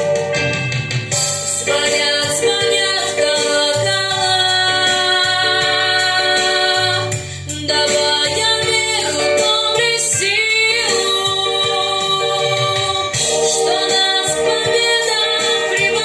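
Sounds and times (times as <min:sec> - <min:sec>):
backing track: 0:00.0 - 0:16.0.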